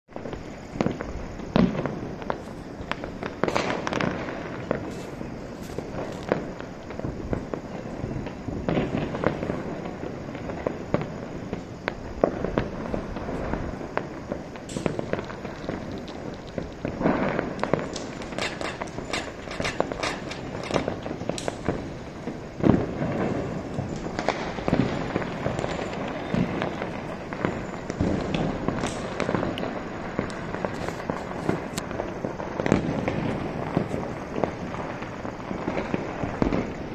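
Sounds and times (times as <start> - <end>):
din of distant firecrackers: 0.1 - 36.9
firecracker bangs and pops: 0.1 - 36.9.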